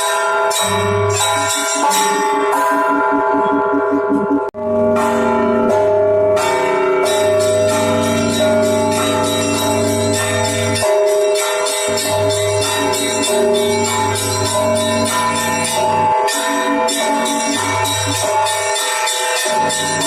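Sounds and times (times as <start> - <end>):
large bells ringing: 0.0 - 20.0
small church bells struck rapidly: 0.0 - 20.0.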